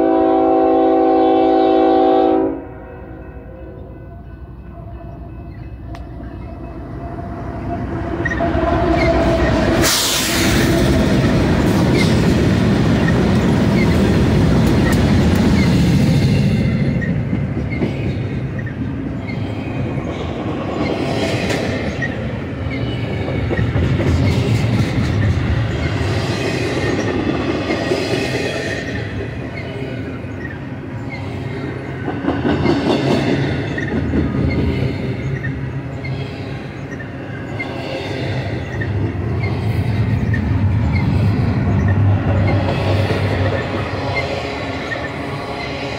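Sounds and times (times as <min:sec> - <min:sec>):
diesel locomotives passing: 0:00.0 - 0:45.9.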